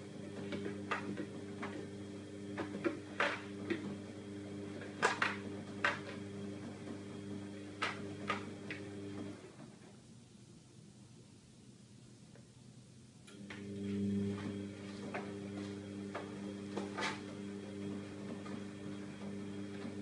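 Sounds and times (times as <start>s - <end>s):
washing machine motor hum: 0.0s - 10.2s, 13.2s - 20.0s.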